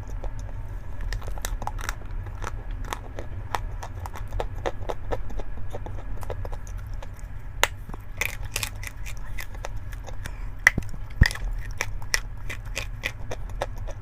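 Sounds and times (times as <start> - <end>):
chalk crunching: 0.0 - 14.0
steady low hum: 0.0 - 14.0.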